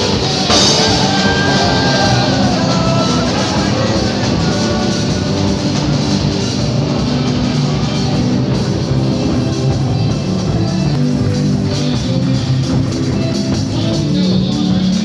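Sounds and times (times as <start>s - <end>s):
live band guitar and drums: 0.0s - 15.0s.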